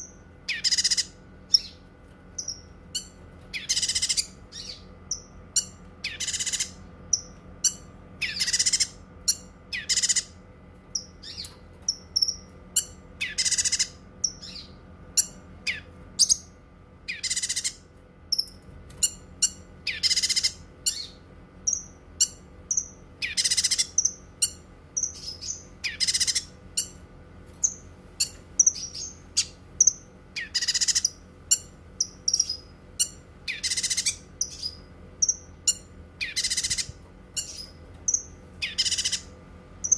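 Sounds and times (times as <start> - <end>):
songbird harsh calls: 0.0 - 1.8, 2.4 - 10.4, 12.2 - 16.4, 17.1 - 17.8, 19.0 - 26.9, 28.2 - 39.9
high bird chirps and trills: 0.0 - 39.9.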